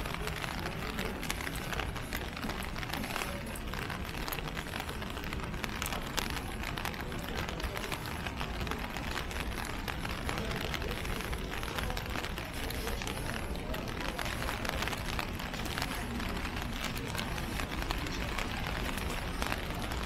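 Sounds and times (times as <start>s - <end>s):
rain falling on pavement: 0.0s - 20.0s.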